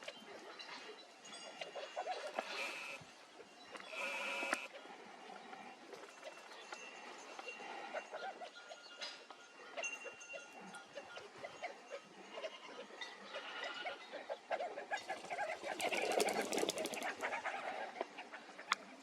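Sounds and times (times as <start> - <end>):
flock of birds chattering: 0.0 - 19.0.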